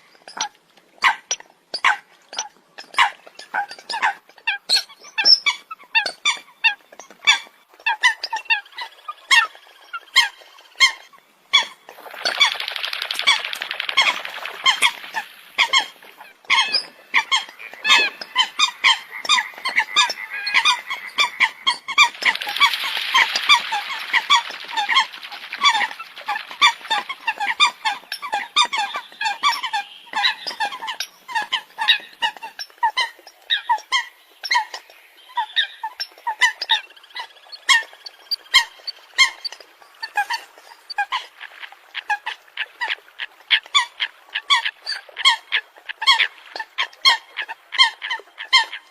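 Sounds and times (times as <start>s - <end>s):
flock of coots calling: 2.9s - 48.9s.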